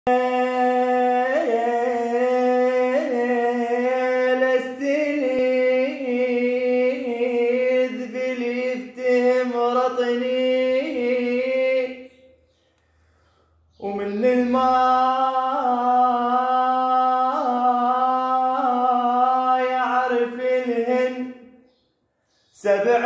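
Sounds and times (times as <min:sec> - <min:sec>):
man singing unaccompanied: 0:00.0 - 0:12.3, 0:13.7 - 0:21.8, 0:22.4 - 0:23.0.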